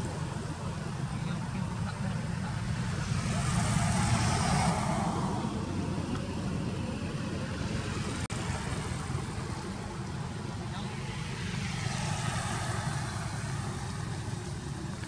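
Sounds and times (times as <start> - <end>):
low engine rumble: 0.0 - 15.0
vehicle passing: 0.0 - 15.0.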